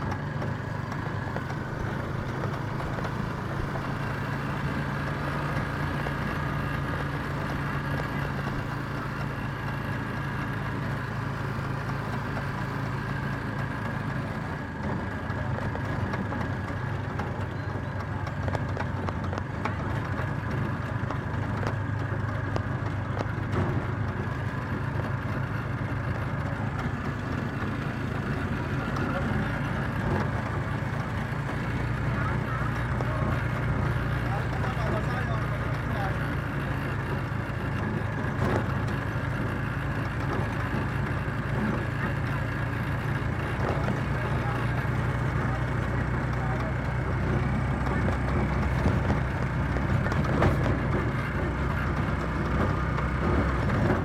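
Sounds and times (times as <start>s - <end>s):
road noise: 0.0s - 54.0s
vehicle engine drone: 0.0s - 54.0s.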